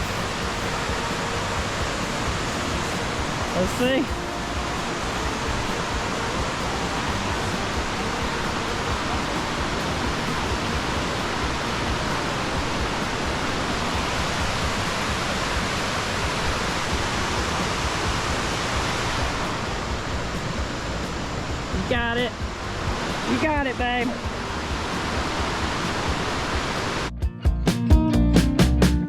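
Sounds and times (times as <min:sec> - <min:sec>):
creek water rushing: 0:00.0 - 0:27.1.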